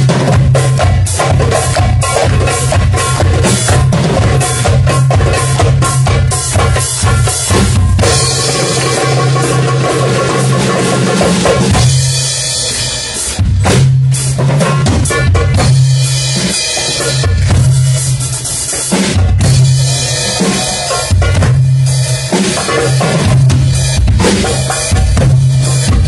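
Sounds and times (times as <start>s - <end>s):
drum kit beat: 0.0s - 26.0s
goblet hand drums: 0.0s - 26.0s.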